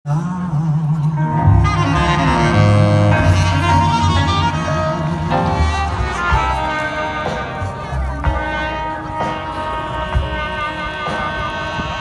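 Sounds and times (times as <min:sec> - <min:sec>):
jazz band playing: 0:00.6 - 0:12.0.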